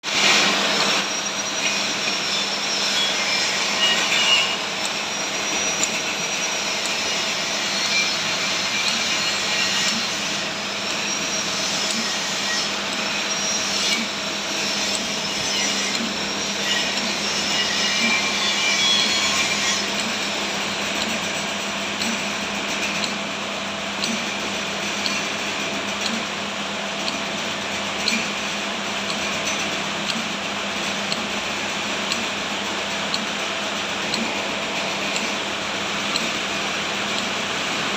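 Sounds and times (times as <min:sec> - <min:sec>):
machine motor hum: 0:00.1 - 0:37.9.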